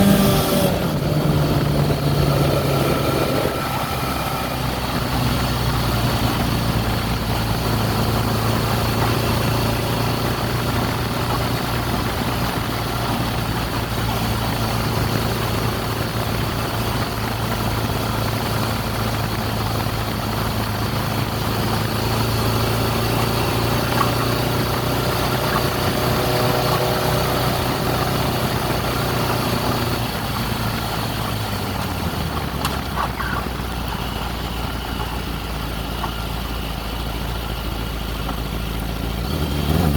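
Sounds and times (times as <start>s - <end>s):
motorcycle engine idling: 3.4s - 39.5s.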